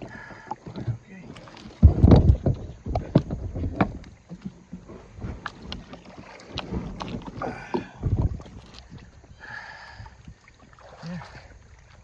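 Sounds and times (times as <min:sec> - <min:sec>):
kayak hull knocking and scraping: 0:00.0 - 0:11.0.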